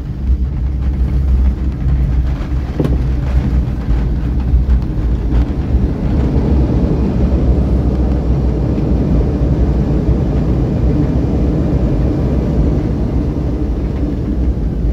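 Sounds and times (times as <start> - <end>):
airliner cabin rumble: 0.0 - 14.9.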